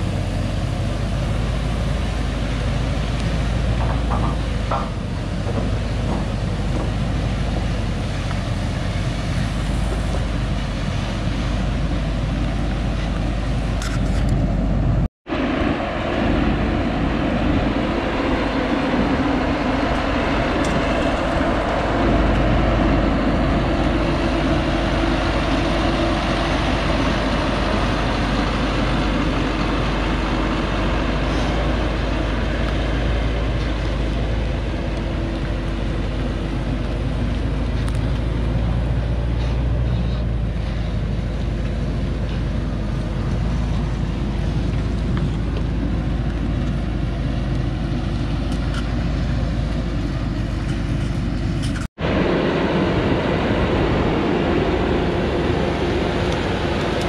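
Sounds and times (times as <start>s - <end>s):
steady whine: 0.0s - 57.0s
truck diesel engine droning: 0.0s - 57.0s.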